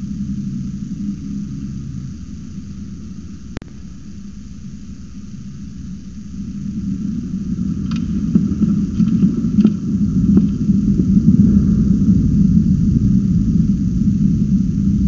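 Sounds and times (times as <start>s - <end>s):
thunder crackles: 0.0s - 15.0s
thunder rumbling: 0.0s - 15.0s.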